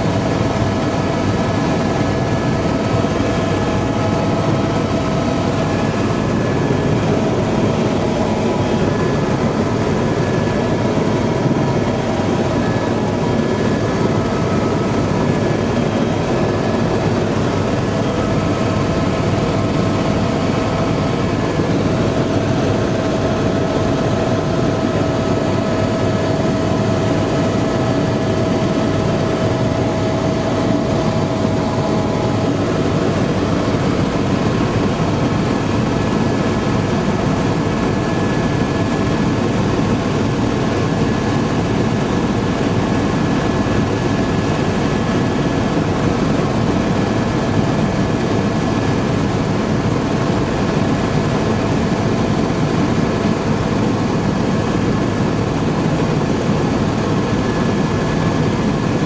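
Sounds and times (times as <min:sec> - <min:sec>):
faint steady whine: 0:00.0 - 0:59.0
helicopter engine and rotor noise: 0:00.0 - 0:59.0.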